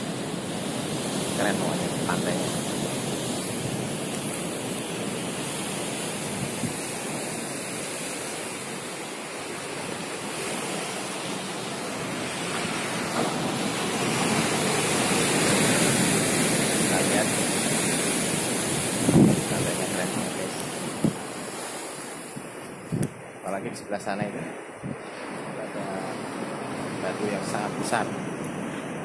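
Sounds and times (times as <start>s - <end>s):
wind on microphone: 0.0s - 9.0s, 9.6s - 29.0s
surf breaking on rocks: 0.0s - 24.4s.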